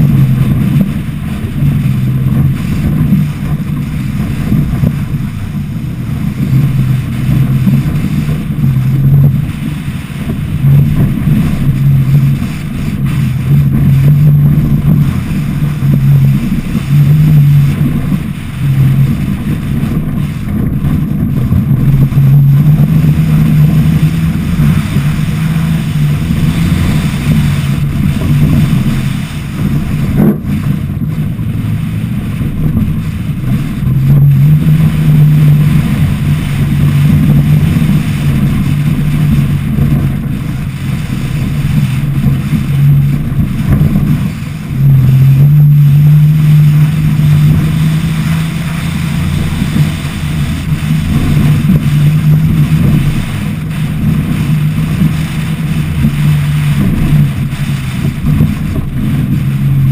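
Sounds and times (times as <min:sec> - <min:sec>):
engine running hard: 0:00.0 - 0:59.9
wind buffeting microphone: 0:00.0 - 0:59.9.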